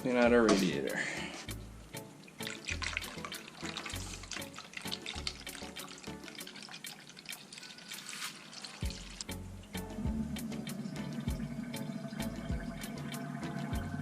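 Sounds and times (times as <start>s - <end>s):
background music with steady beat: 0.0s - 14.0s
water running: 2.0s - 9.4s, 10.1s - 14.0s.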